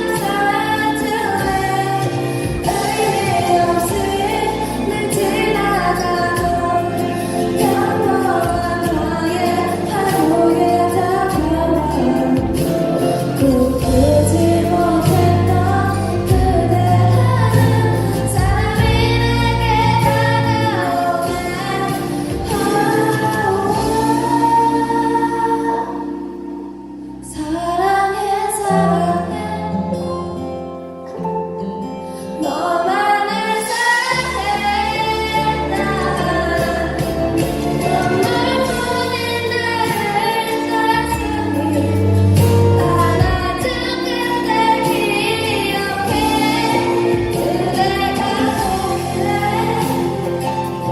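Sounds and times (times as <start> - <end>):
women singing with vibrato: 0.0 - 30.6, 32.1 - 50.9
sustained instrumental accompaniment: 0.0 - 50.9.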